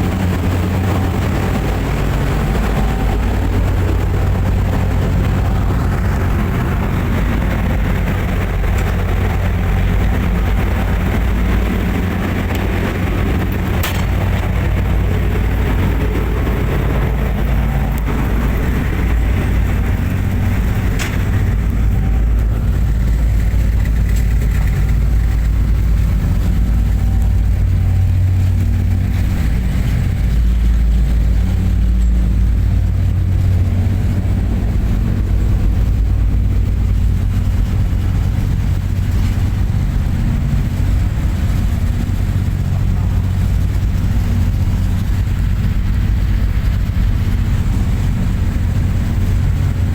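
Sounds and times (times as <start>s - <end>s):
boat engines droning: 0.0s - 49.9s
water and hull noise: 0.0s - 49.9s.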